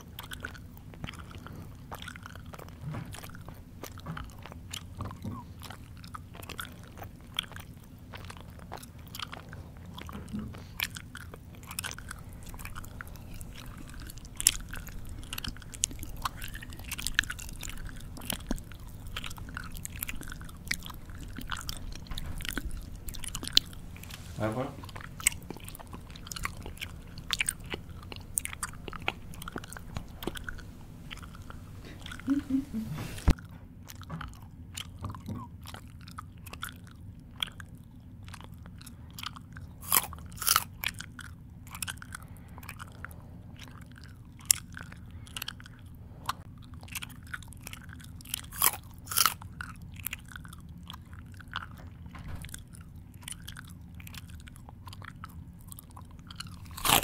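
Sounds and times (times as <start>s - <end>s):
faint steady hum: 0.0s - 57.0s
mouth chewing crunches: 0.0s - 57.0s.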